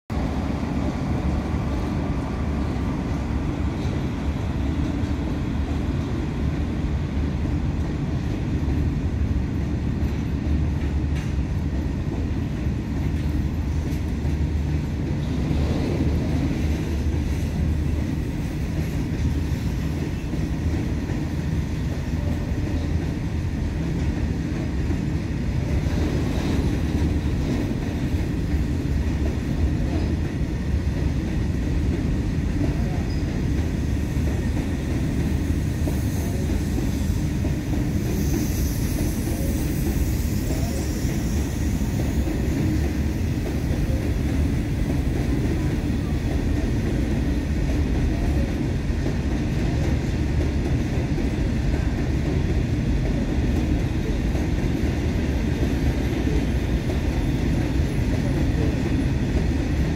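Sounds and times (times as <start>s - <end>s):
goods train rumbling past: 0.1s - 59.9s.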